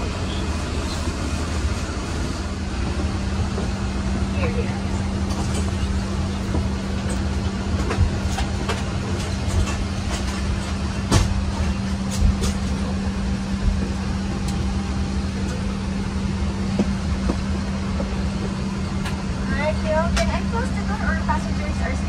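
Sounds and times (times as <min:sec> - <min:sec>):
airplane cabin hum: 0:00.0 - 0:22.0.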